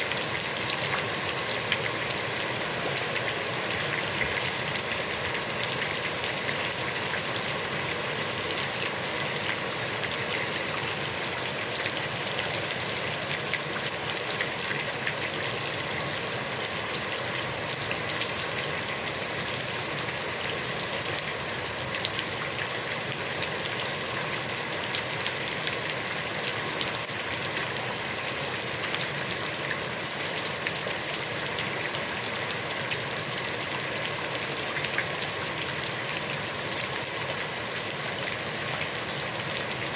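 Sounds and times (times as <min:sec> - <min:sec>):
heavy rain on water: 0:00.0 - 0:39.9.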